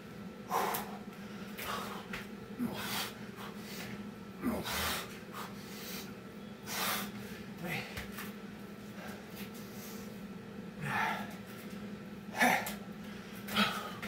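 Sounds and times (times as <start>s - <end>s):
steady low hum: 0.0s - 14.0s
man breathing heavily: 0.4s - 8.1s, 8.8s - 11.5s, 12.3s - 14.0s.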